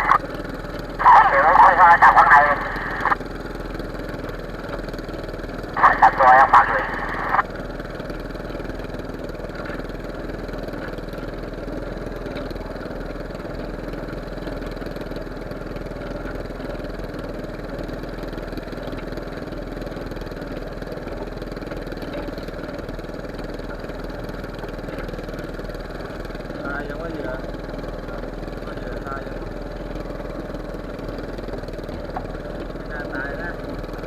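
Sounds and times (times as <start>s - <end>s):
boat engine idling: 0.0s - 34.0s.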